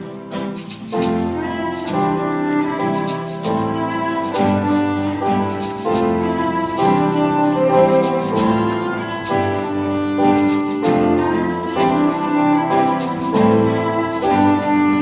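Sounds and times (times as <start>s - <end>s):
gentle instrumental music: 0.0s - 15.0s.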